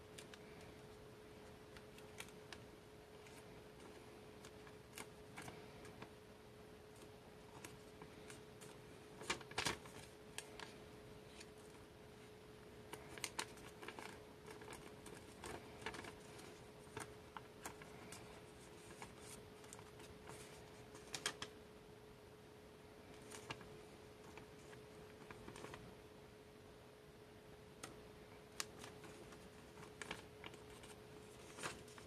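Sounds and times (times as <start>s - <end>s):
paper rustling and crinkling: 0.1s - 6.2s, 6.9s - 21.5s, 23.0s - 25.9s, 27.8s - 32.0s.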